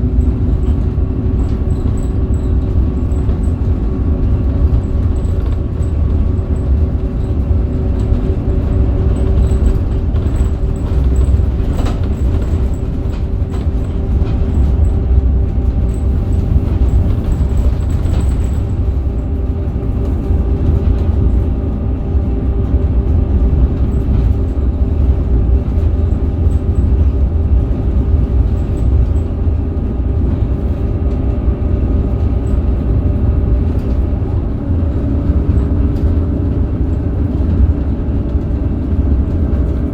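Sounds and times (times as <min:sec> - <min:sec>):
bus engine drone: 0:00.0 - 0:39.9
road rumble: 0:00.0 - 0:39.9.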